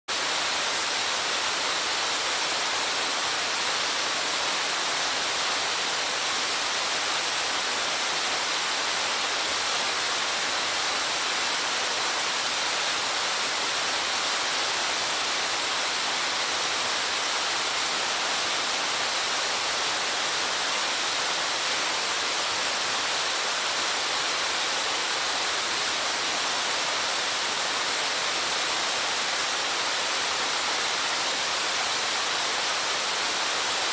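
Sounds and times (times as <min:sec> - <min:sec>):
waterfall rushing hiss: 0:00.1 - 0:33.9.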